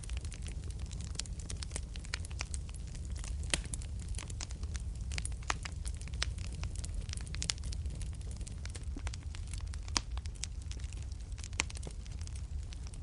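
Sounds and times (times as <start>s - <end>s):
fire flames rumbling: 0.0s - 13.0s
wood fire crackling and popping: 0.0s - 13.0s.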